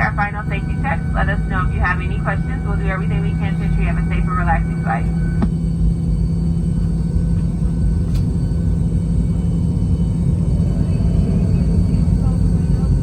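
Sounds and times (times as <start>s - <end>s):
aircraft cabin rumble and hum: 0.0s - 13.0s.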